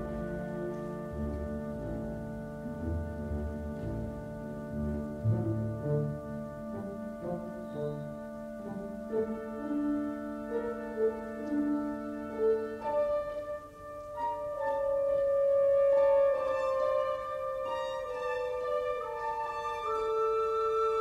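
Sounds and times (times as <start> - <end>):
slow classical music: 0.0 - 21.0.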